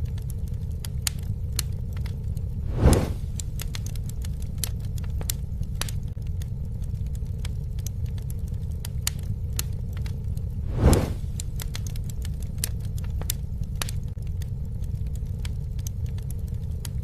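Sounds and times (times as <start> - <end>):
campfire crackling: 0.0 - 17.0
fire popping and snapping: 0.0 - 17.0.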